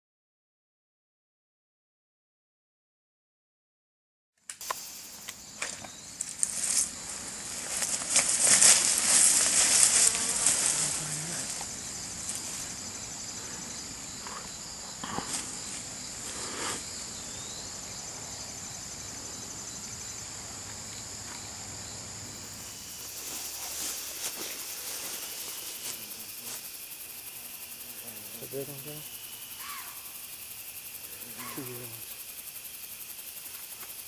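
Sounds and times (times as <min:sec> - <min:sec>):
insect chorus: 0:04.5 - 0:34.0.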